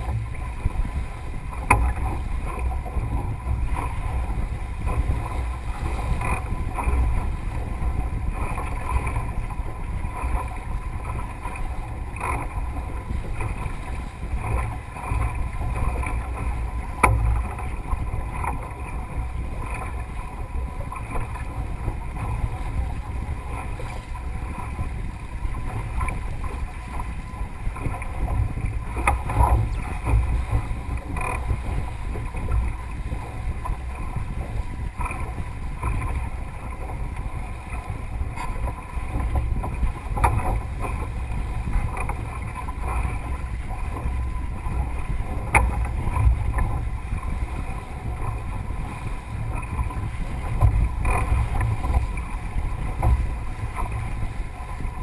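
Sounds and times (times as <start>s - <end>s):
sharp knocks of boat: 0.0s - 55.0s
water rushing along hull: 0.0s - 55.0s
wind buffeting microphone: 0.0s - 55.0s.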